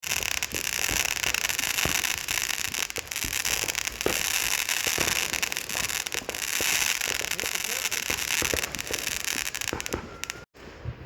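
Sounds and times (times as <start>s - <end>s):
fireworks crackling and popping: 0.0s - 10.7s.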